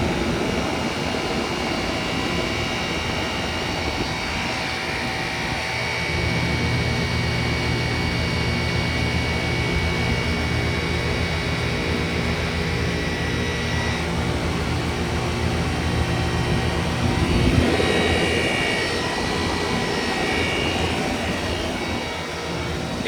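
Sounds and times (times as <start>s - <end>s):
heat pump compressor and fan hum: 0.0s - 23.0s
thin high whine: 0.0s - 23.0s.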